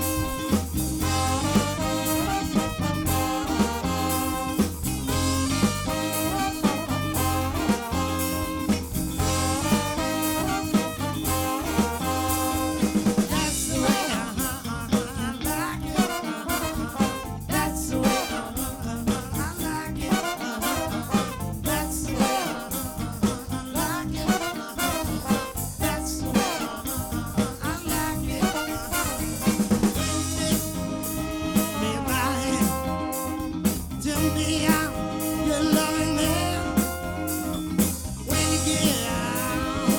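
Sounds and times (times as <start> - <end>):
horn section: 0.0 - 19.4, 20.0 - 39.9
drum kit beat: 0.0 - 39.9
live band playing: 0.0 - 39.9.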